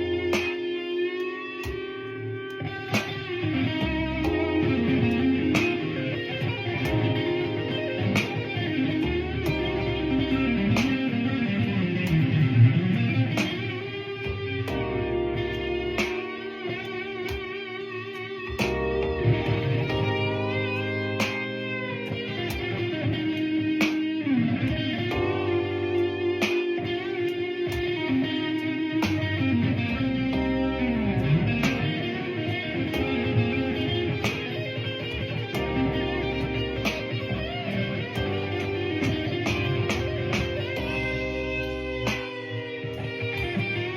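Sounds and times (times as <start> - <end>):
bass: 0.0 - 43.9
electric blues guitar lead: 0.0 - 43.9
steady beat with sharp hits: 0.0 - 43.9.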